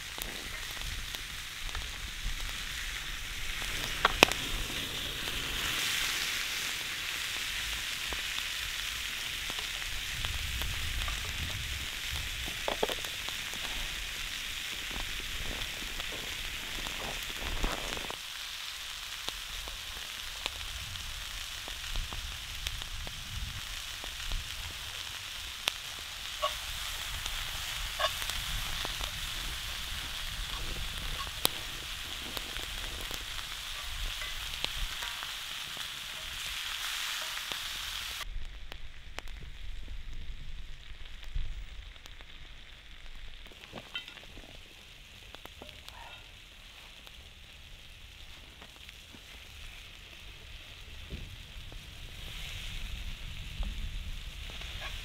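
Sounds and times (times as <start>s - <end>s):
food frying in hot oil: 0.0s - 55.0s
oil popping and crackling: 0.0s - 55.0s.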